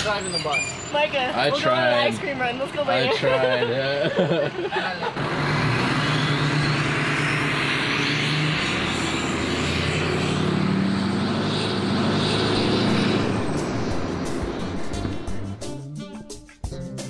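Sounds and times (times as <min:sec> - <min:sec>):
bus engine pulling away: 0:00.0 - 0:16.0.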